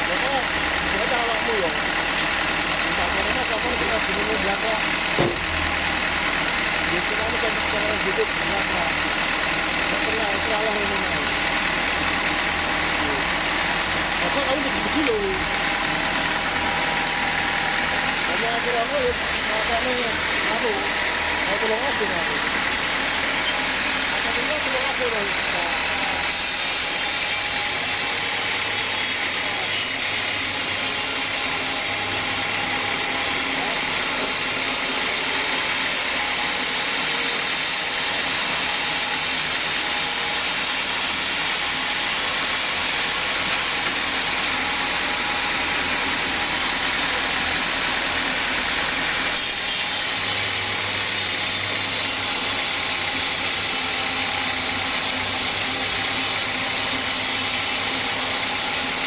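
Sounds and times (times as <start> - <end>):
sawmill saw cutting log: 0.0 - 59.0.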